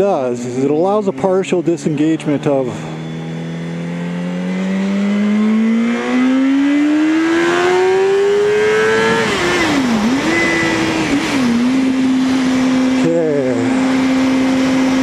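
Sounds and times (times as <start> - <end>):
motorcycle engine revving: 0.7 - 15.0.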